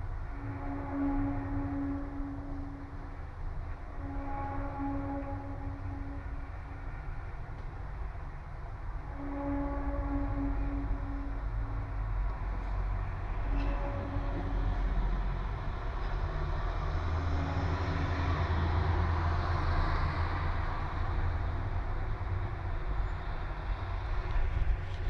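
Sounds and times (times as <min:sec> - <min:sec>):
faint low horn-like tone: 0:00.0 - 0:21.4
urban traffic rumble: 0:00.0 - 0:25.0.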